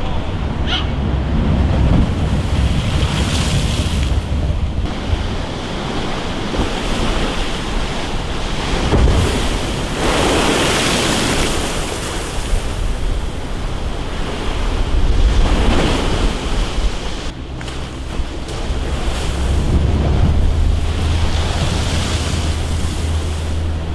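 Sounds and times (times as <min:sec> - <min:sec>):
waves surging and breaking: 0:00.0 - 0:23.9
wind buffeting microphone: 0:00.0 - 0:23.9.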